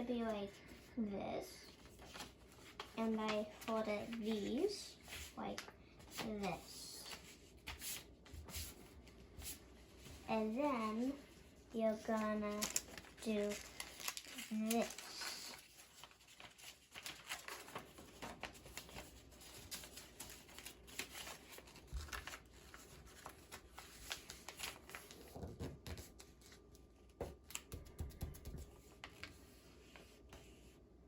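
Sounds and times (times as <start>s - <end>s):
paper rustling and crinkling: 1.6s - 30.8s.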